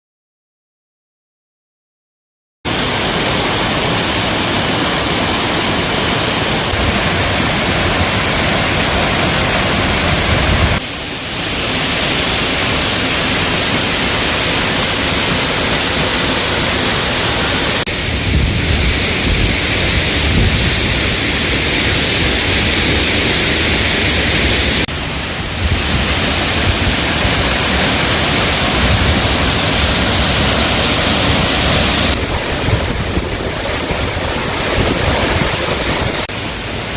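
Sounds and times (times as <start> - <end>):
waterfall rushing: 2.7 - 36.9.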